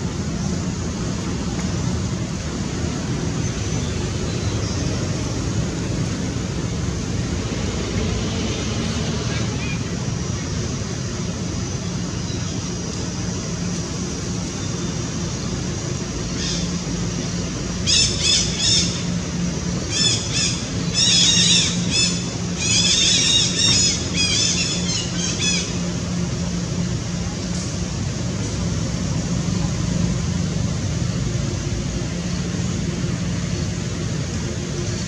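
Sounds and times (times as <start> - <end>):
low background hum: 0.0 - 35.0.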